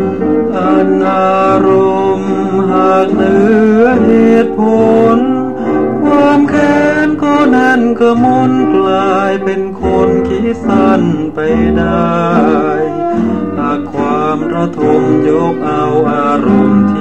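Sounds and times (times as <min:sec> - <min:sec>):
man singing pop song with band: 0:00.6 - 0:05.4, 0:06.0 - 0:17.0.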